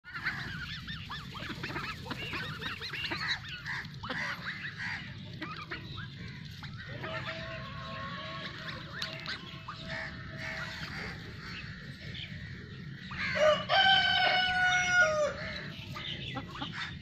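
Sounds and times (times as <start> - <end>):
ducks calling: 0.0 - 17.0.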